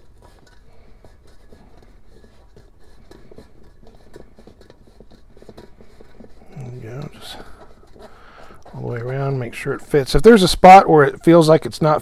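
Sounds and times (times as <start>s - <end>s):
faint scratching and ticks: 0.0s - 12.0s.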